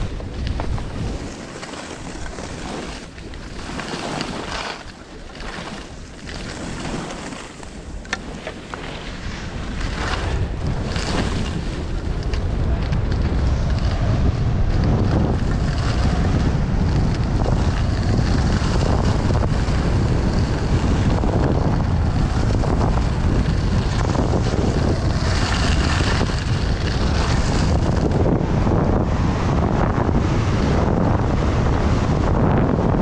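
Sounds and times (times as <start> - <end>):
skis scraping over hard snow: 0.0 - 33.0
wind buffeting microphone: 0.0 - 33.0.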